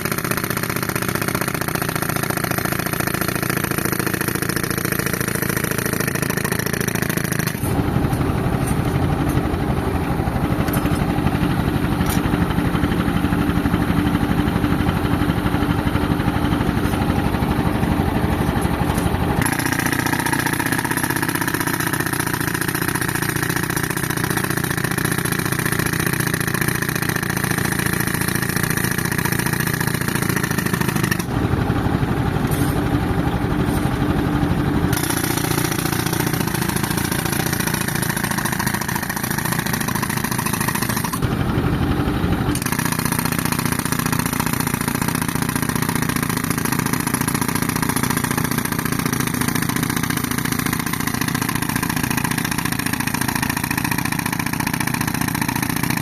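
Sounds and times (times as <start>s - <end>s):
tractor engine running compressor: 0.0s - 56.0s.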